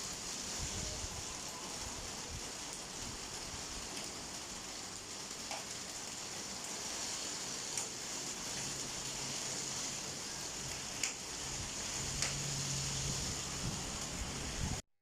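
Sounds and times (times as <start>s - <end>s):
heavy rain hissing: 0.0s - 14.8s.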